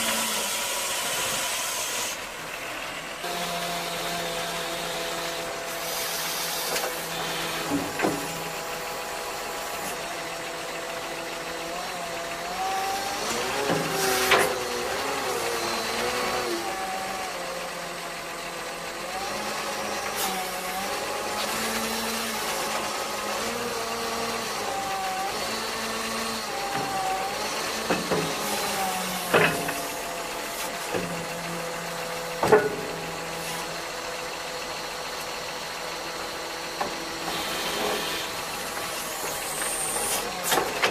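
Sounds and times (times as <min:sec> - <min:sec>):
hydraulic whine: 0:00.0 - 0:02.4, 0:03.2 - 0:18.4, 0:19.0 - 0:40.9
diesel engine running: 0:00.0 - 0:40.9.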